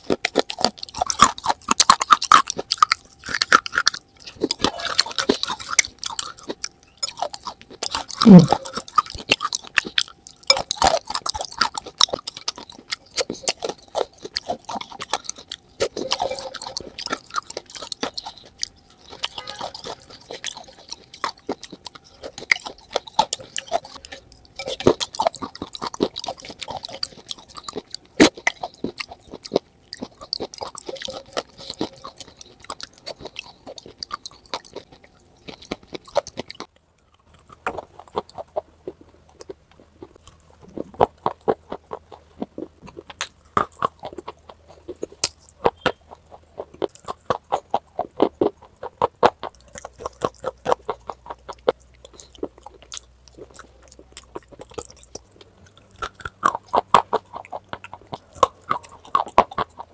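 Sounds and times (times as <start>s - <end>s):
chewing crunchy clay: 0.0s - 59.9s.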